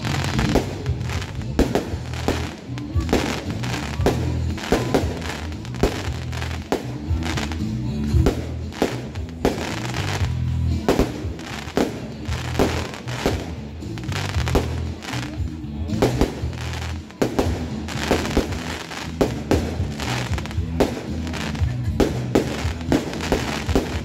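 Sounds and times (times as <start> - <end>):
fireworks bursting: 0.0 - 24.0
music playing: 0.0 - 24.0.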